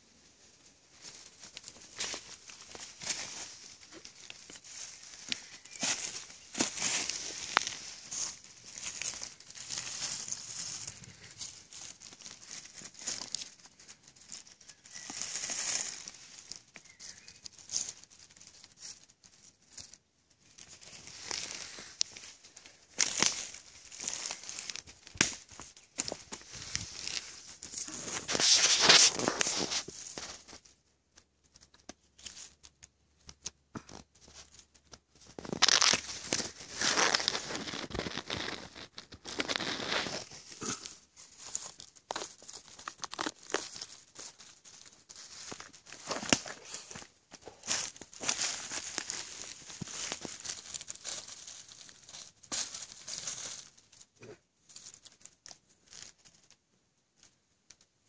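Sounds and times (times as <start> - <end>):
dry leaves rustling and crackling: 0.1 - 30.7, 31.5 - 56.6.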